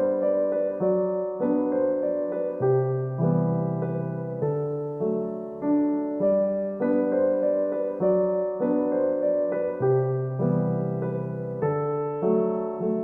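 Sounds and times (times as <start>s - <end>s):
gentle electric piano music: 0.0s - 13.0s.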